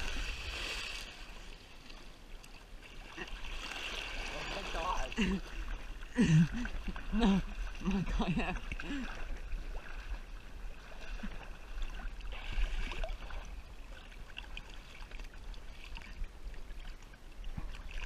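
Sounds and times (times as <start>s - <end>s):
water lapping against kayak hull: 0.0s - 18.0s.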